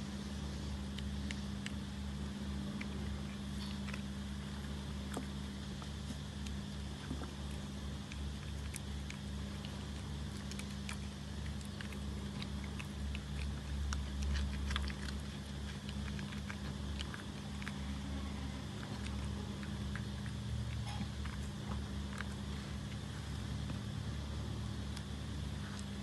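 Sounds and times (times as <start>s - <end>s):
cat chewing crunchy cracker: 0.0s - 26.0s
steady low hum: 0.0s - 26.0s.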